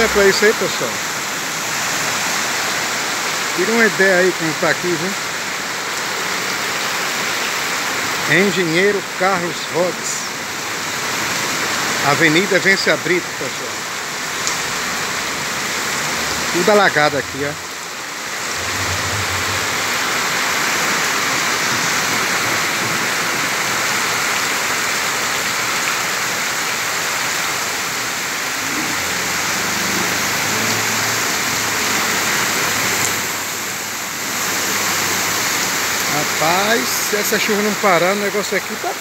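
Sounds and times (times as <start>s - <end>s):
heavy rain on flooded street: 0.0s - 39.0s
vehicles driving through floodwater: 0.0s - 39.0s.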